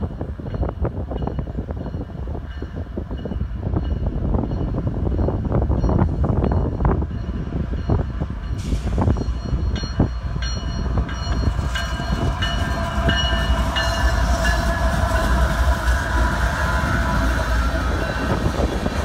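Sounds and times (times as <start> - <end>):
diesel locomotives rumbling past: 0.0 - 19.0
crossing bell ringing: 0.5 - 18.7.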